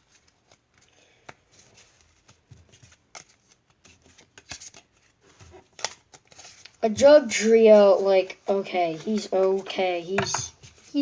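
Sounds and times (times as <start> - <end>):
trading cards clicking and rustling: 0.1 - 11.0.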